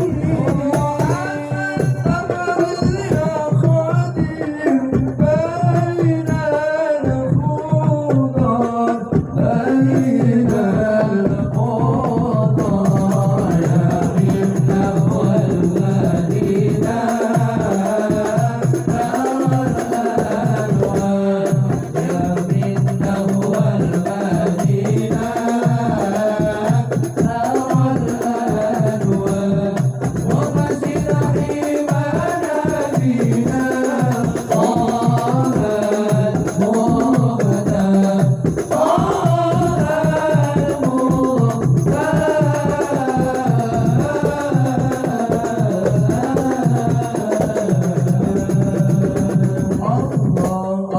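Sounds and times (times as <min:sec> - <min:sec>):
hand percussion beat: 0:00.0 - 0:50.9
person singing devotional song: 0:00.0 - 0:50.9.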